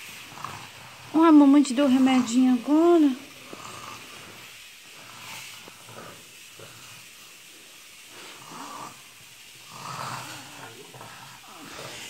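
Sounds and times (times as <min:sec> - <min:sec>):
girl's snore-like breathing: 0:00.0 - 0:12.0.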